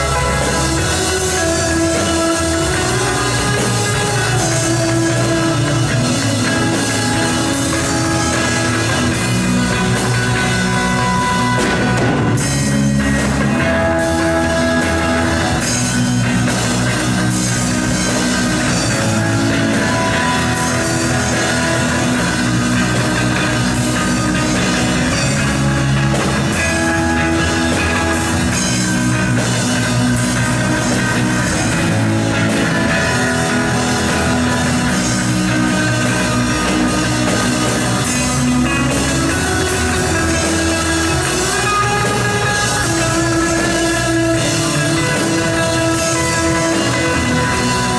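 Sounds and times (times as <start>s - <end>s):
drum kit: 0.0s - 47.9s
electric guitar: 0.0s - 47.9s.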